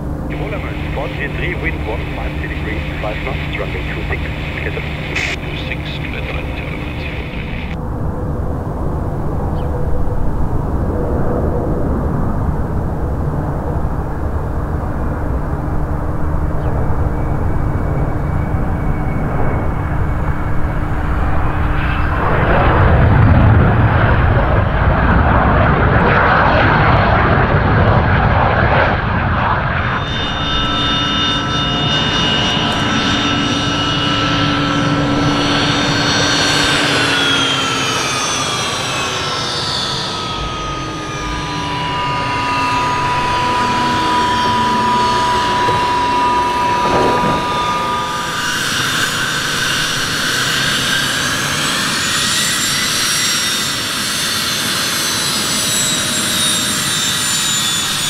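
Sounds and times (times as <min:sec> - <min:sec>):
jet touching down and rolling: 0:00.0 - 0:09.2, 0:14.3 - 0:58.0
jet engine rumble: 0:00.0 - 0:58.0
jet engines whining: 0:00.0 - 0:58.0.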